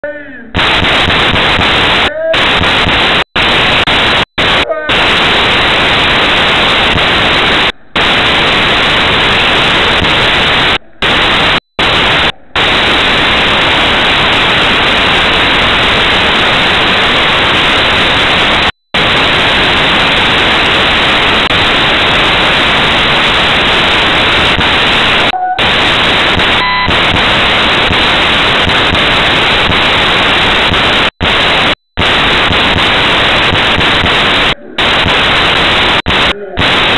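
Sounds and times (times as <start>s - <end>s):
loud static hiss: 0.5s - 36.9s.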